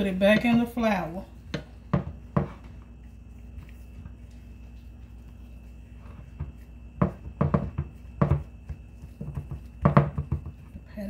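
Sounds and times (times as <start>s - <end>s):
hand patting meat in flour: 0.0s - 11.0s.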